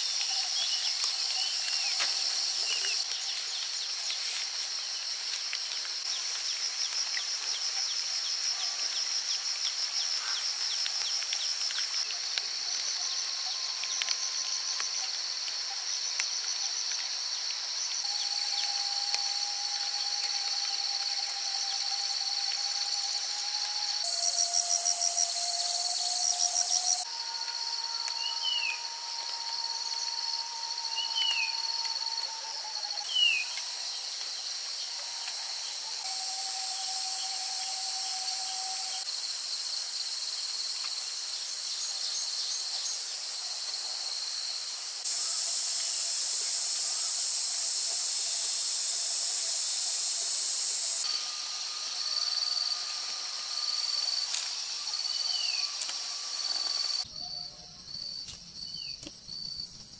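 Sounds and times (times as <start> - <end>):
insects buzzing and trilling: 0.0 - 59.9.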